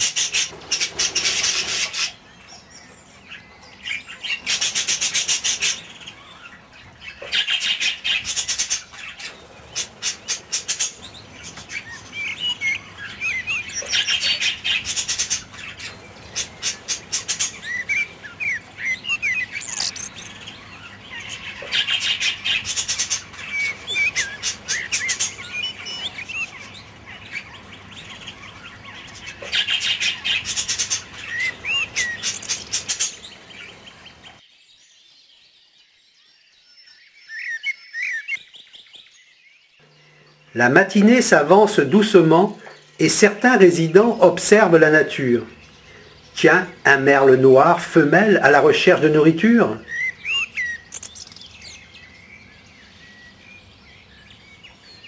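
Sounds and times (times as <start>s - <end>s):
budgerigars warbling: 0.0s - 34.4s, 37.3s - 38.9s, 39.8s - 55.0s.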